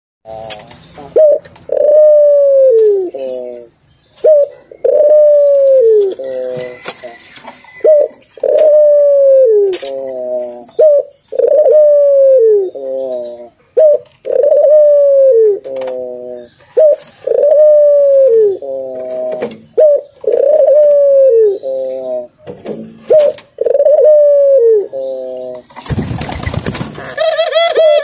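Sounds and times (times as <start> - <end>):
dove cooing: 0.3 - 22.4, 23.0 - 28.0.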